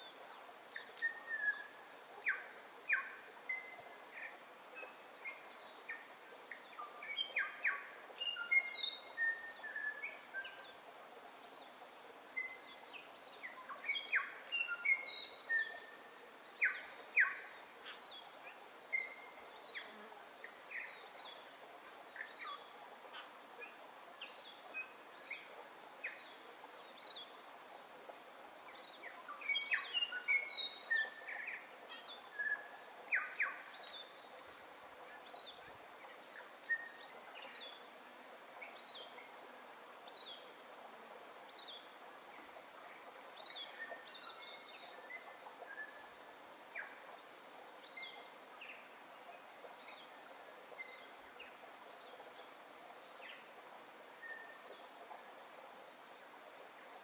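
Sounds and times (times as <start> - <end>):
birds singing and calling: 0.0 - 37.9, 41.5 - 53.4
faint steady hiss: 0.0 - 57.0.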